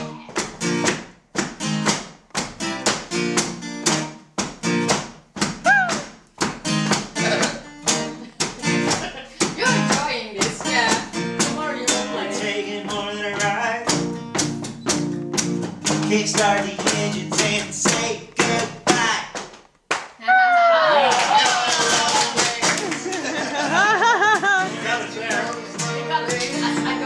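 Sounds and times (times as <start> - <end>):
acoustic guitar strumming: 0.0 - 19.4, 21.6 - 27.0.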